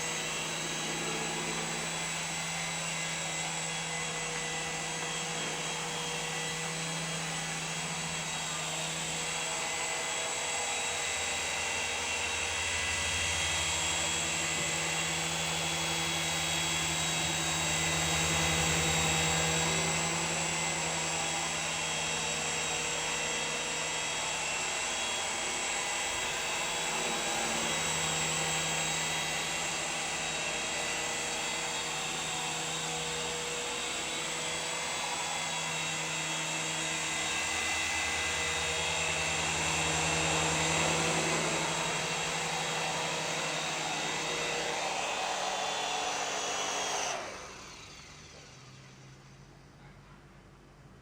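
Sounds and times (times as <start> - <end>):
toy helicopter electric motors whining: 0.0 - 49.6.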